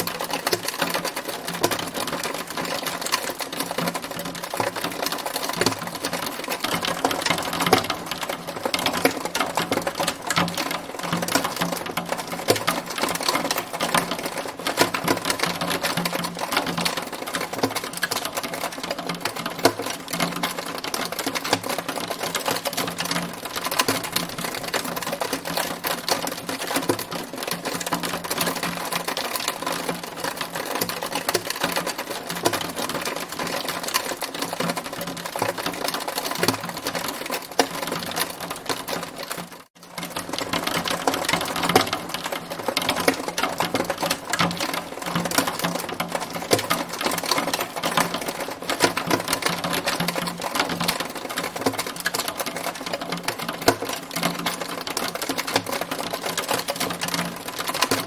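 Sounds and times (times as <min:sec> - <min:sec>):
hailstones clattering: 0:00.0 - 0:58.0.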